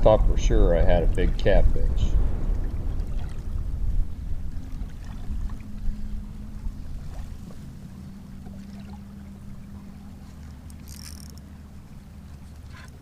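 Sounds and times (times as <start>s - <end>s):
wind buffeting microphone: 0.0s - 11.2s
faint steady hum: 0.0s - 13.0s.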